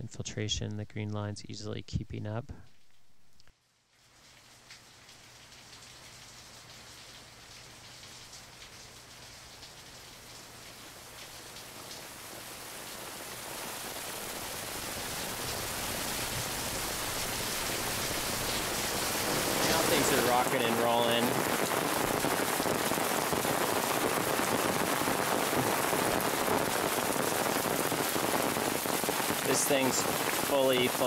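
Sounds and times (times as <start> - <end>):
rain falling: 2.6 - 31.0.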